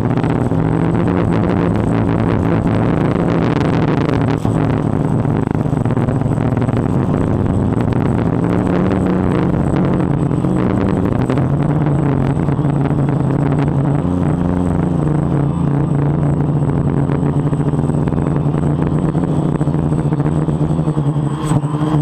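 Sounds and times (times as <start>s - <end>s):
wind rushing over microphone: 0.0s - 21.1s
drone propellers buzzing: 0.0s - 22.0s
high whine: 0.0s - 22.0s.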